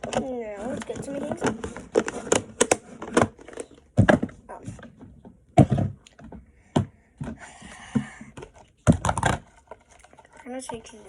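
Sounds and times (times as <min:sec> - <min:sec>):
objects clicking and knocking: 0:00.0 - 0:11.0.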